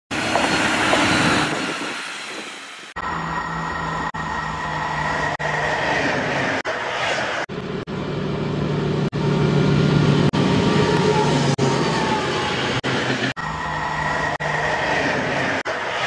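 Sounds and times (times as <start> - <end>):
train running: 0.1 - 16.0.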